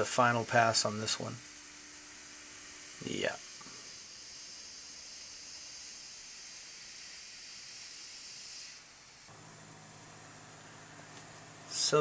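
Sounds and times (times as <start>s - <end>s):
coolant spray hissing: 0.0s - 12.0s.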